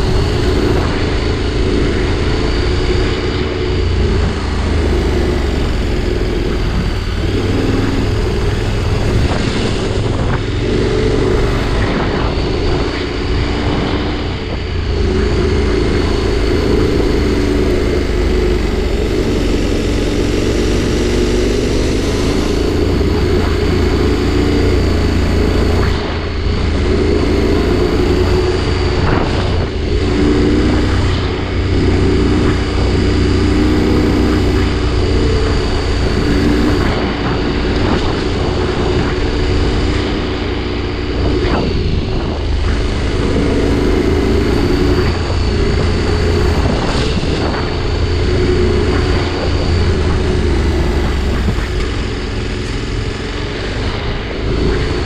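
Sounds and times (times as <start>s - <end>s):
motorcycle engine cruising: 0.0s - 55.0s
wind rush: 0.0s - 55.0s.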